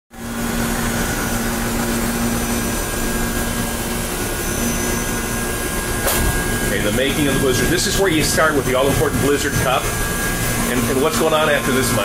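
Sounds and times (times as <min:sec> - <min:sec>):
machinery whirring and humming: 0:00.2 - 0:12.0.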